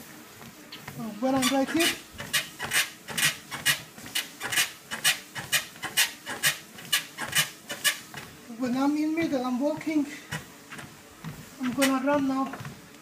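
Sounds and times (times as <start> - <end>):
footsteps on treadmill deck: 0.0 - 13.0
treadmill frame squeaking: 0.7 - 12.8.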